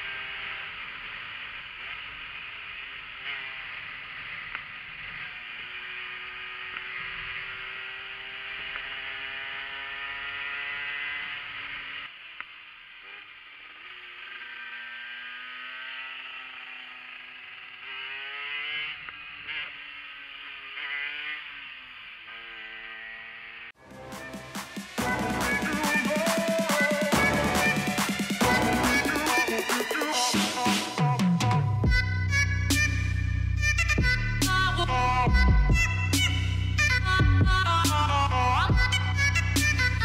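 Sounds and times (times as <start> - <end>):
moped engine accelerating: 0.0 - 40.0.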